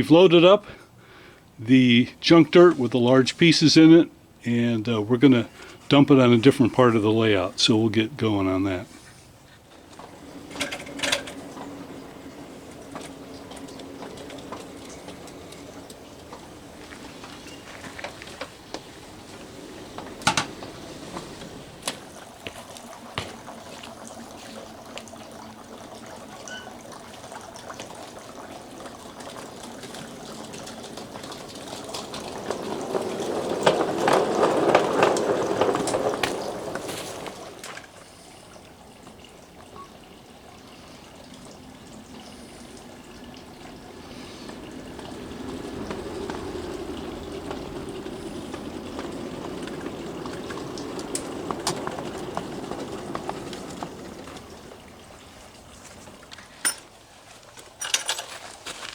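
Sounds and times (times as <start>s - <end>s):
small train rolling on track: 0.0s - 58.9s.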